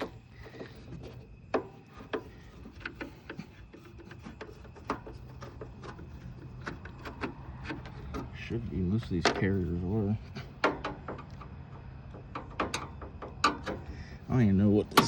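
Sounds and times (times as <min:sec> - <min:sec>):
hands tapping and scraping metal: 0:00.0 - 0:15.0.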